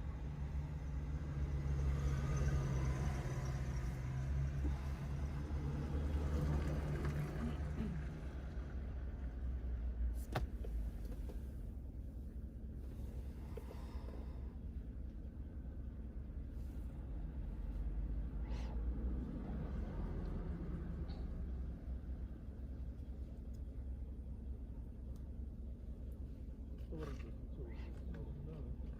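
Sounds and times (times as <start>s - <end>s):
car engine running: 0.0s - 28.9s.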